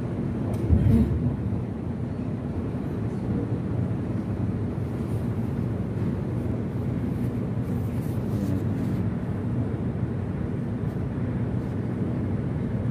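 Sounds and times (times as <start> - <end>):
low rumbling room noise: 0.0 - 12.9.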